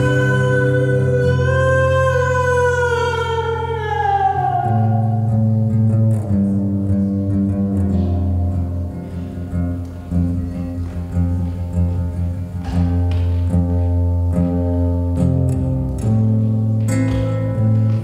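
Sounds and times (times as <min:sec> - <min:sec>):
slow acoustic guitar music: 0:00.0 - 0:18.0.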